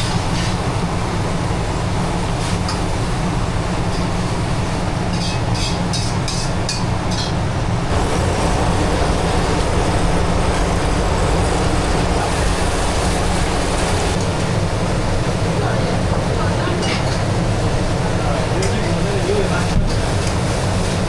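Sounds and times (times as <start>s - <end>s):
loud mechanical hum and rushing: 0.0s - 21.0s.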